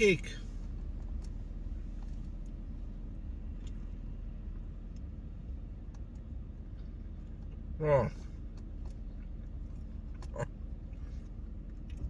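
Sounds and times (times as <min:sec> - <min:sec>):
engine idling rumble: 0:00.0 - 0:12.0.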